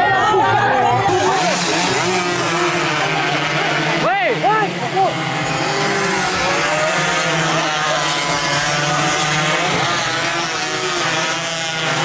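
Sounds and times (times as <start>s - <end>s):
even background noise: 0.0s - 12.0s
motorcycle engines revving hard: 0.0s - 12.0s.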